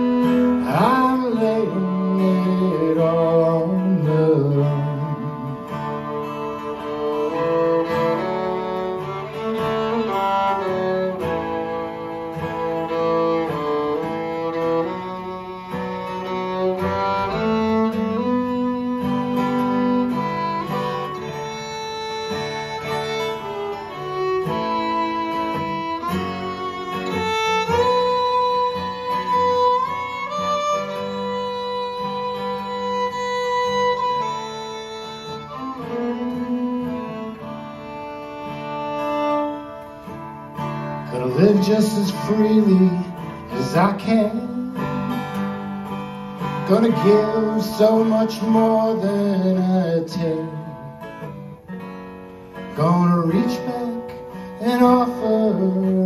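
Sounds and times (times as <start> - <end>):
fiddle playing: 0.0 - 56.0
strummed acoustic guitar: 0.0 - 56.0.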